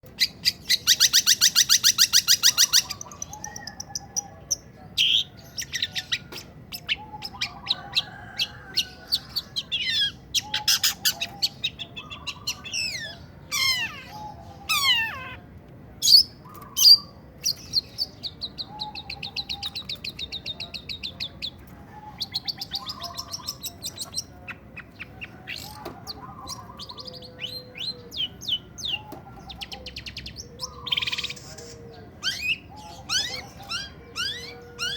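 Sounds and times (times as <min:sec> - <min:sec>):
bird singing varied song: 0:00.0 - 0:34.9.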